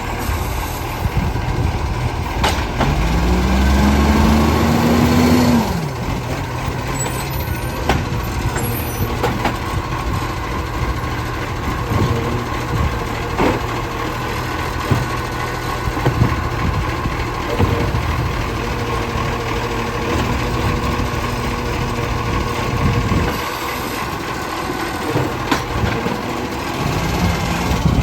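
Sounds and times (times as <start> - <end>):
garbage truck engine running: 0.0 - 28.0
knocks and clanks: 1.0 - 3.2, 6.0 - 28.0.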